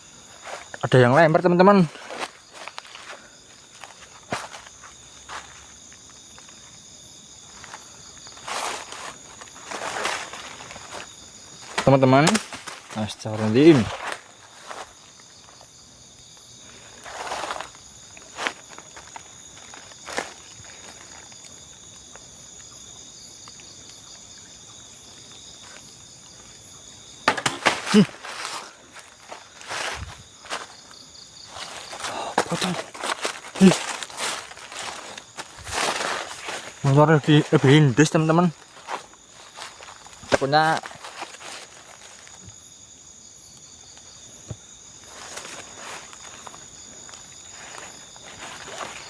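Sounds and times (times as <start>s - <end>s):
crickets trilling: 0.0s - 49.0s.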